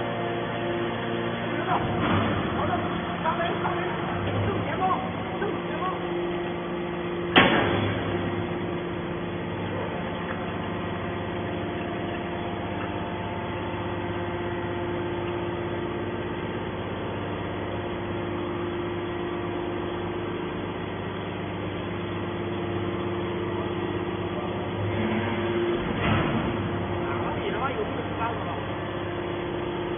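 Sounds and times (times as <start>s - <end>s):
hydraulic power unit humming: 0.0s - 29.9s.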